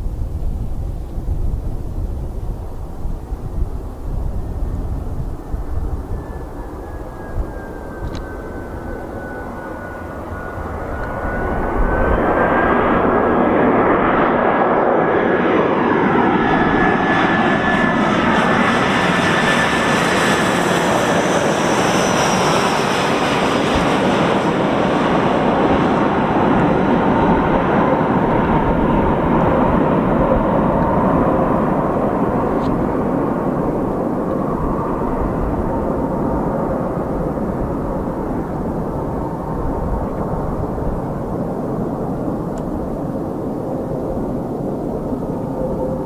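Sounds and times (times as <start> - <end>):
jet engines passing: 0.0 - 46.0.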